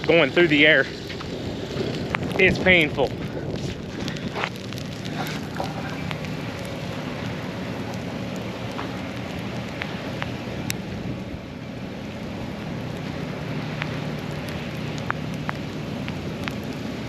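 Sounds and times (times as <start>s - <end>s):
ice pellets ticking on hard surfaces: 0.0s - 10.8s, 12.9s - 16.9s.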